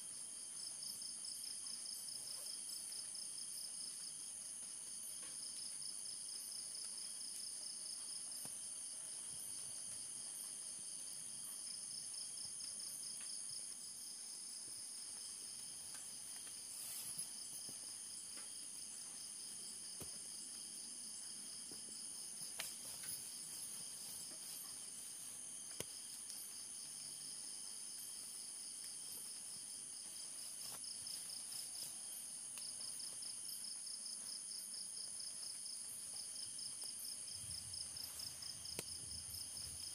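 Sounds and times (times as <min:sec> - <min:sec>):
insects chirring: 0:00.2 - 0:39.9.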